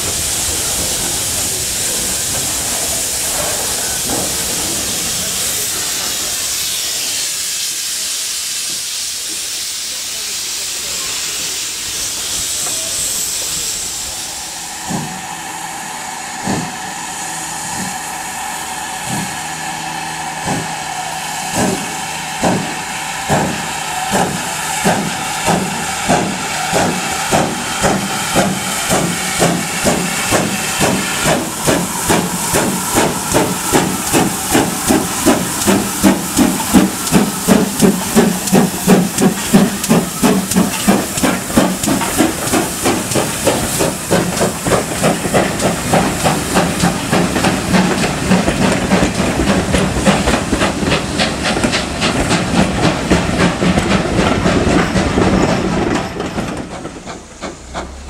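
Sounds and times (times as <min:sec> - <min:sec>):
steam hiss: 0:00.0 - 0:58.0
steam locomotive exhaust beats: 0:00.0 - 0:58.0.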